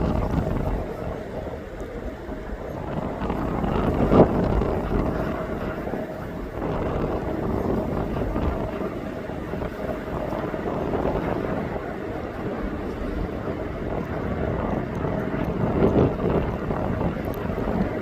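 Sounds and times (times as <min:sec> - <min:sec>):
jet engines rumbling: 0:00.0 - 0:18.0
wind buffeting microphone: 0:00.0 - 0:18.0.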